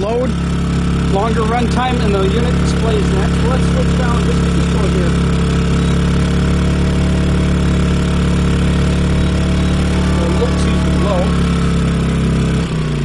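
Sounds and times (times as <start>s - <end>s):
generator engine hum: 0.0s - 13.0s.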